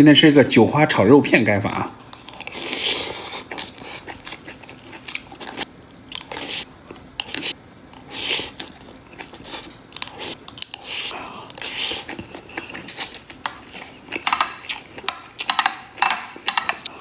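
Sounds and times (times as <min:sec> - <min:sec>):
person chewing and biting food: 0:02.2 - 0:16.9.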